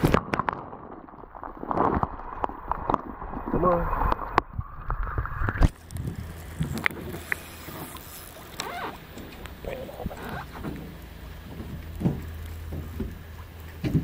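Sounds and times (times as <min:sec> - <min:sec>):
river water splashing: 0:00.0 - 0:14.0.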